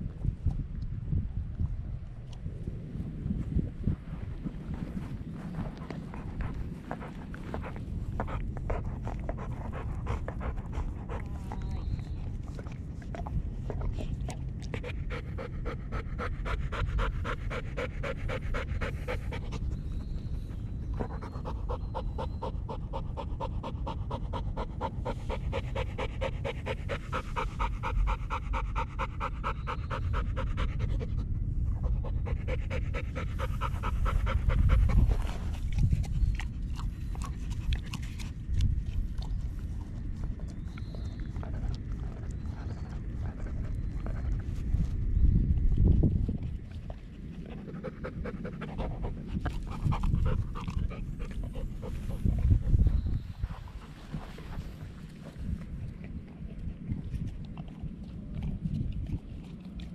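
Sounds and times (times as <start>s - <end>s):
low rumble: 0.0s - 59.9s
dog panting: 4.7s - 59.9s.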